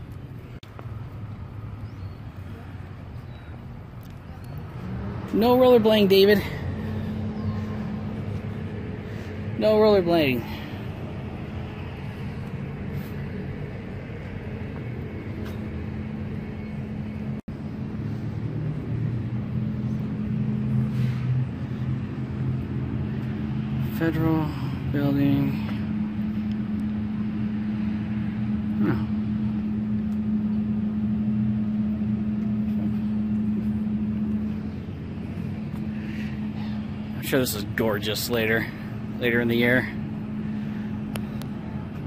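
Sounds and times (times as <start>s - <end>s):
constant low hum: 0.0s - 42.0s
low rumble: 0.0s - 42.0s
road traffic: 0.0s - 42.0s.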